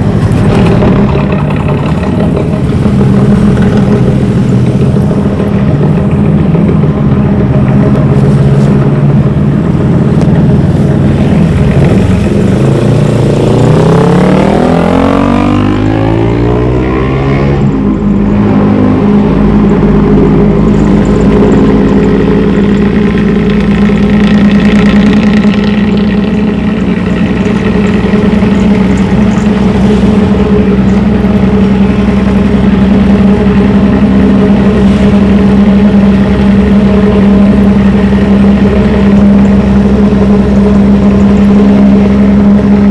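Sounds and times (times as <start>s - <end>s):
bus diesel engine revving: 0.0s - 42.9s.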